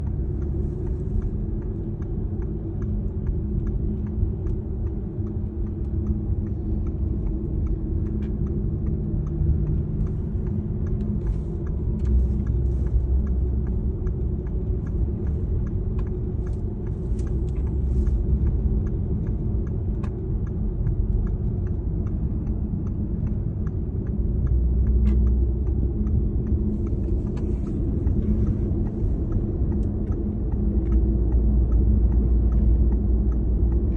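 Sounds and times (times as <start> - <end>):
faint ticks: 0.0 - 33.9
moving vehicle rumble: 0.0 - 33.9.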